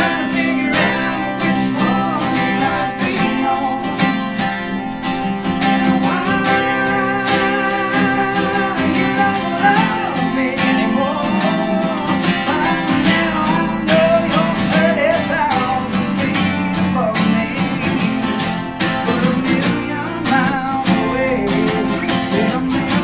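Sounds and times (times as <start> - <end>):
country band playing: 0.0 - 23.0
strummed acoustic guitar: 0.0 - 23.0.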